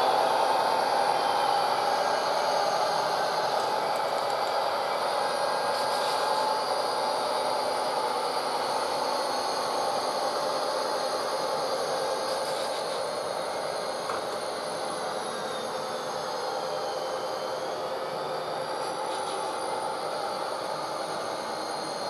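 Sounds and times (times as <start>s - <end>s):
model train cars rolling on track: 0.0s - 22.0s.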